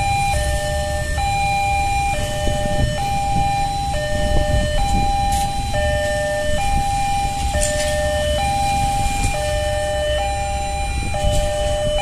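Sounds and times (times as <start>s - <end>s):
car engines idling: 0.0s - 12.0s
level crossing alarm: 0.0s - 12.0s.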